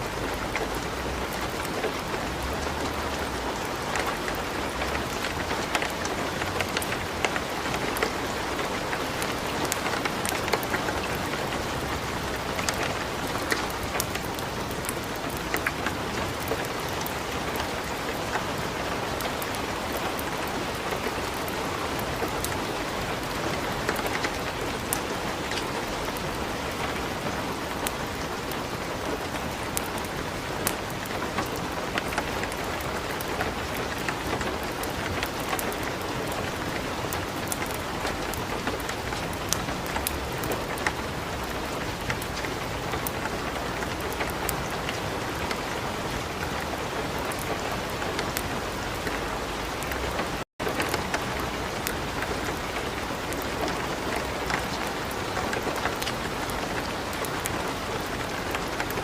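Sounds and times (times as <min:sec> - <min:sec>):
light rain falling: 0:00.0 - 0:59.0
wood fire crackling: 0:00.1 - 0:59.0.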